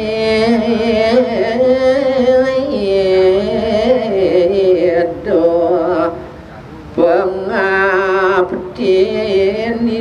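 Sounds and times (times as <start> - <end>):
man singing long ornamented notes: 0.0 - 6.3, 6.9 - 10.0.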